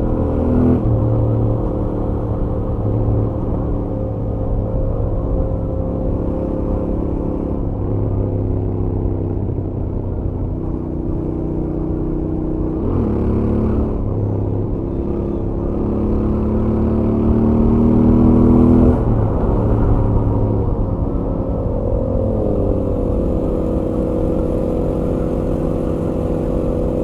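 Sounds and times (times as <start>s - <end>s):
motorcycle engine at highway speed: 0.0s - 27.0s.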